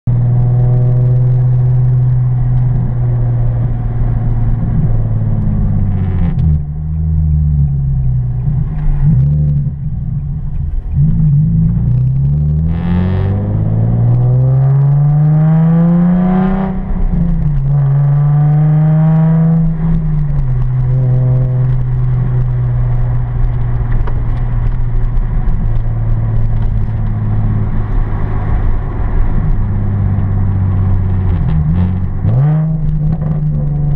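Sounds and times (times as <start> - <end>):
car engine drone from cabin: 0.1 - 33.9.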